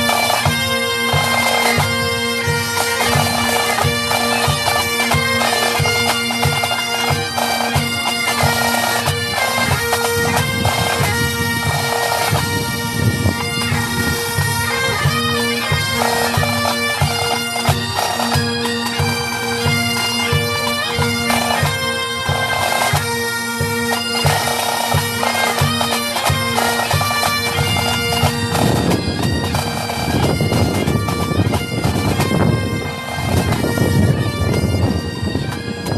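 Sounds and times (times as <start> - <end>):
bagpipe drone: 0.0 - 35.9
bagpipe melody: 0.0 - 35.9
marching drum beat: 0.0 - 35.9.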